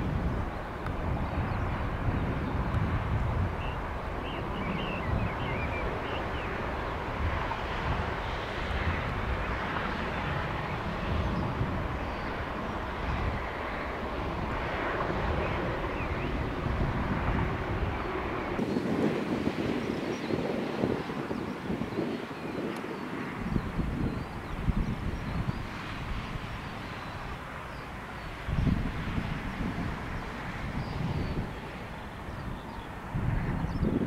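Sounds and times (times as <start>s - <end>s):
distant jet engine rumble: 0.0s - 34.0s
wind buffeting microphone: 0.0s - 34.0s.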